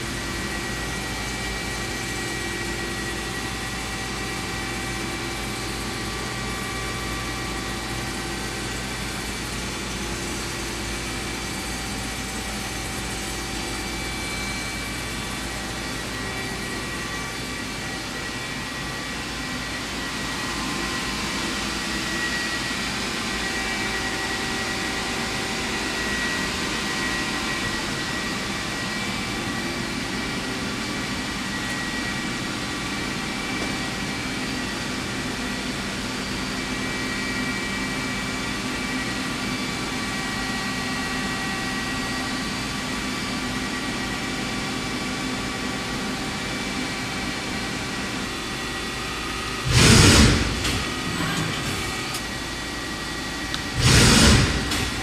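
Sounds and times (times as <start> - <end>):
lathe humming and whining: 0.0 - 55.0.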